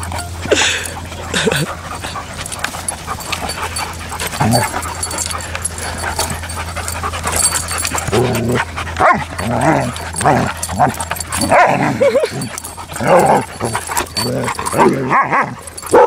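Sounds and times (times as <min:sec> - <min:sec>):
dogs scuffling: 0:00.0 - 0:11.8, 0:12.4 - 0:16.0
dogs low vocal sounds: 0:00.0 - 0:16.0
dogs panting: 0:00.0 - 0:16.0.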